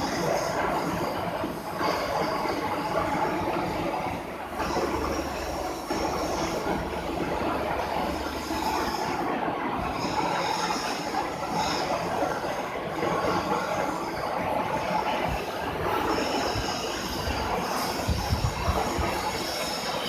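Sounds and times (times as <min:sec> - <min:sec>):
high metallic whine: 0:00.0 - 0:20.0
lathe running: 0:00.0 - 0:20.0.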